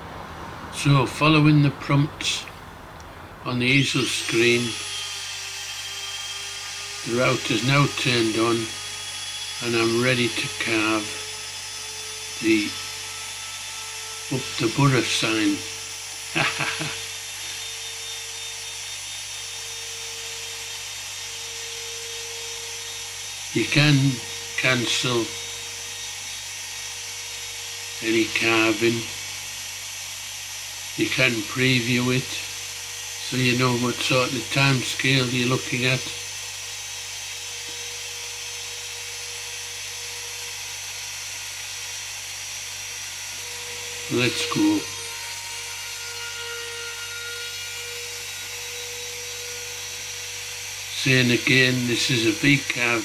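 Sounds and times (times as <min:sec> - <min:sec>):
router spinning whine: 0:00.0 - 0:53.0.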